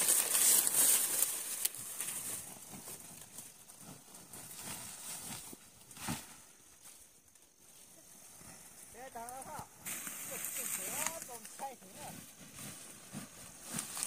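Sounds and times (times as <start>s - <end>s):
dry corn stalks rustling: 0.0s - 14.0s.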